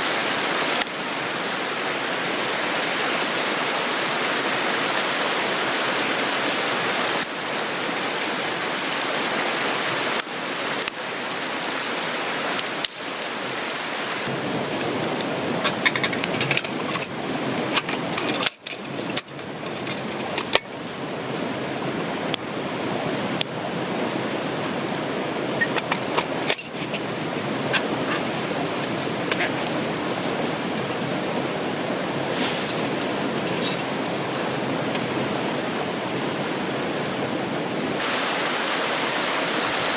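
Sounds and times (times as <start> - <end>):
river rushing: 0.0 - 15.9, 18.9 - 39.9.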